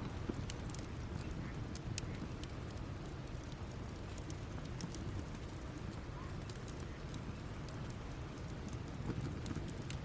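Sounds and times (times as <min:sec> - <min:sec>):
campfire crackling and popping: 0:00.0 - 0:10.0
low fire rumble: 0:00.0 - 0:10.0.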